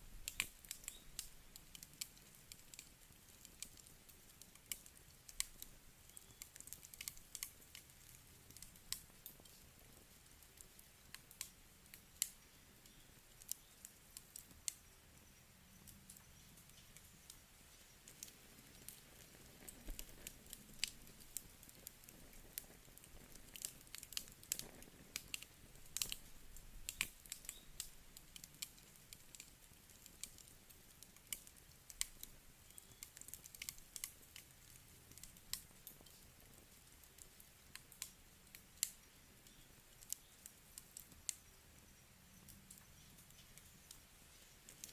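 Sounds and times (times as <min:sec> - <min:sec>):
campfire crackling and popping: 0:00.0 - 0:44.9
faint hiss: 0:00.0 - 0:44.9.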